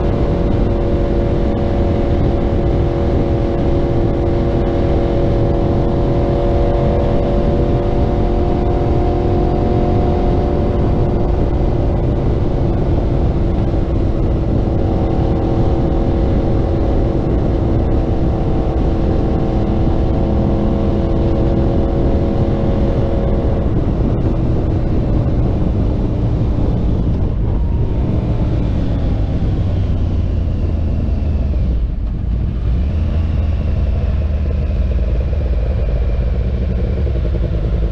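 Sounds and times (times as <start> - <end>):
motorcycle engine: 0.0 - 37.9
wind noise: 0.0 - 37.9.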